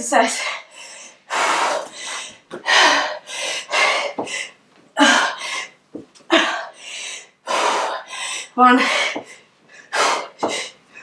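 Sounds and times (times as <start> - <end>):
woman breathing hard: 0.3 - 11.0.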